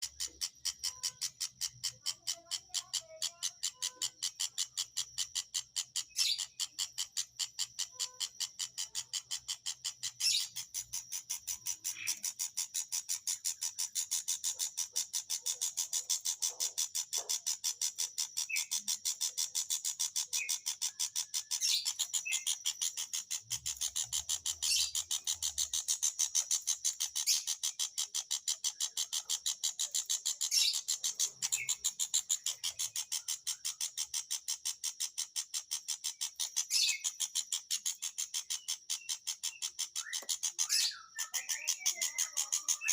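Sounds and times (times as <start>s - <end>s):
bird chipping calls: 0.0s - 42.9s.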